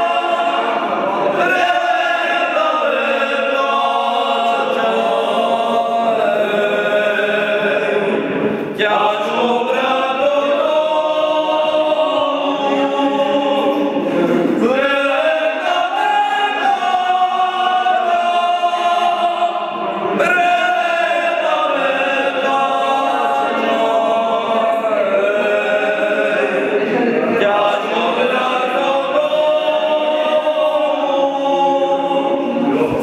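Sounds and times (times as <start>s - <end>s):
men singing unaccompanied: 0.0s - 33.0s.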